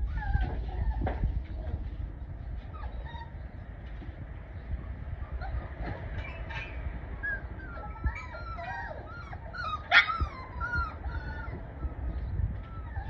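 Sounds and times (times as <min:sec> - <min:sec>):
puppy yelping: 0:00.0 - 0:01.8, 0:02.6 - 0:03.7, 0:05.2 - 0:13.0
puppies whining and whimpering: 0:00.0 - 0:13.0.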